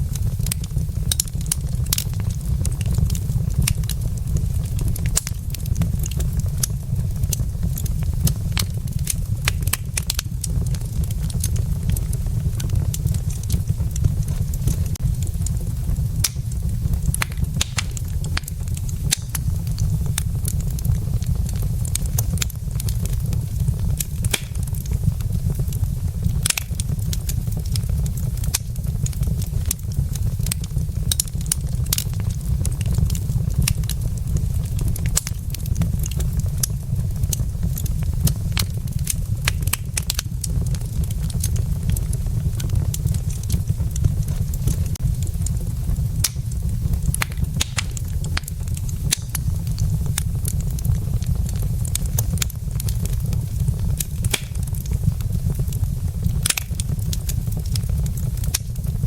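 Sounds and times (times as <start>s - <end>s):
fire crackling and popping: 0.0s - 59.0s
fire low rumble: 0.0s - 59.0s.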